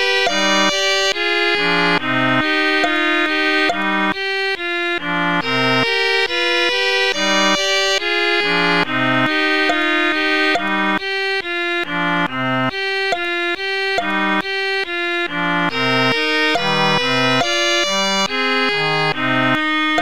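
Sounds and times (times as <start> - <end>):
instrumental music held chords: 0.0 - 20.0.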